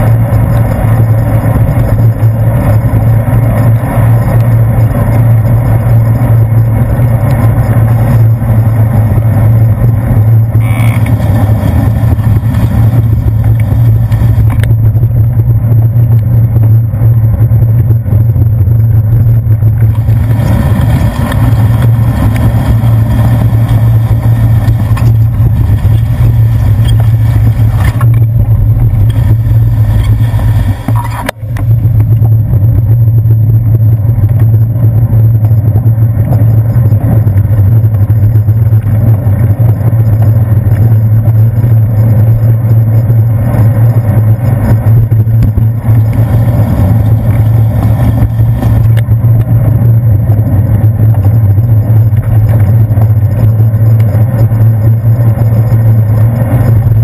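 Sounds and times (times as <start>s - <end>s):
street traffic: 0.0s - 57.0s
wind and road rumble: 0.0s - 57.0s.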